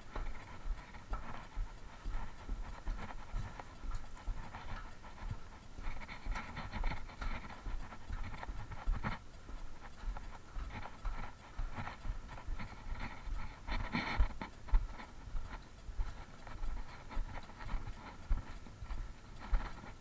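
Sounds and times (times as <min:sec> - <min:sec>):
footsteps on tunnel floor: 0:00.0 - 0:20.0.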